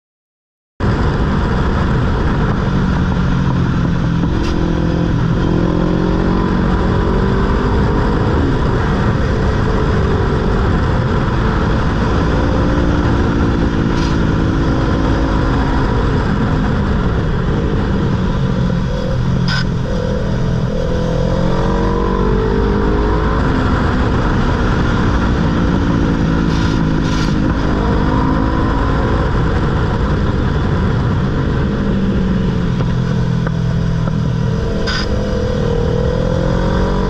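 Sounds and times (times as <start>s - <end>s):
heavy steady rushing noise: 0.8s - 37.0s
motorcycle engine running: 1.0s - 37.0s.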